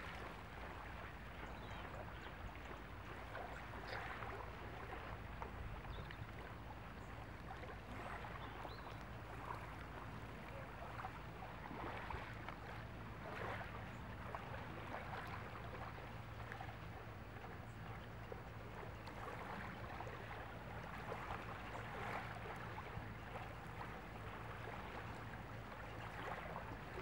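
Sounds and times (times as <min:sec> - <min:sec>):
sea water lapping at shoreline: 0:00.0 - 0:27.0.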